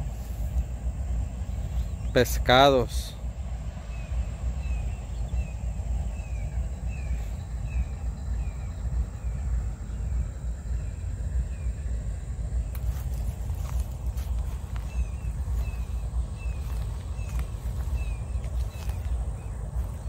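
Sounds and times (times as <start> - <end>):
constant low rumble: 0.0 - 20.0.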